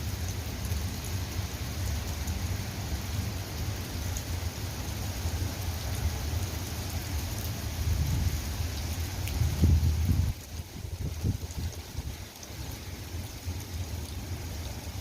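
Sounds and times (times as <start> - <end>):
continuous low rumble: 0.0 - 15.0
steady rain falling: 0.0 - 15.0.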